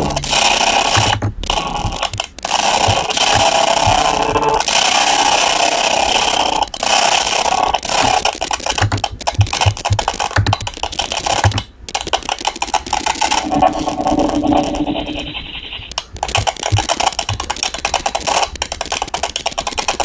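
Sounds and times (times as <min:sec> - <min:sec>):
harsh noisy synthetic sound: 0:00.0 - 0:20.0.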